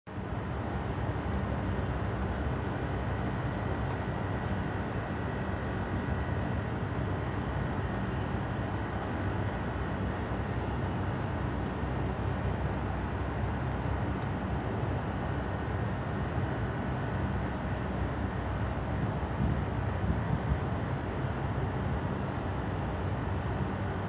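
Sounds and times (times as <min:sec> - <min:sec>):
low background rumble: 0:00.1 - 0:24.0.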